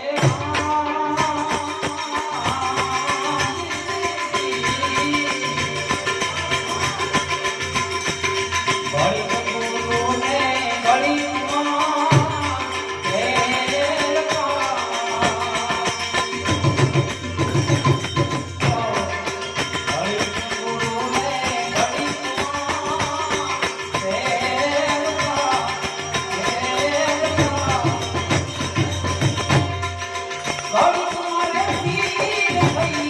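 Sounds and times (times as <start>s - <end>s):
hand drum rhythm: 0.0s - 33.0s
jingling percussion: 0.0s - 33.0s.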